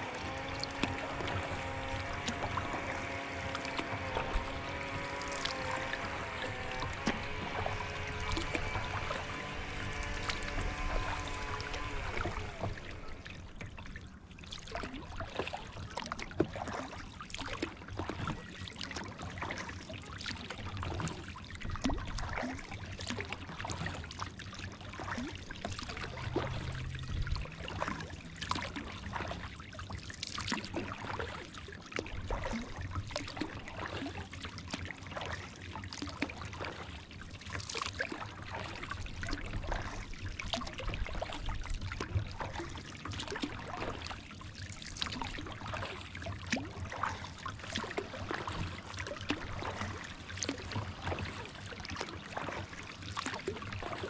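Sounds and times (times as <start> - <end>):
water splashing off paddles: 0.0 - 54.0.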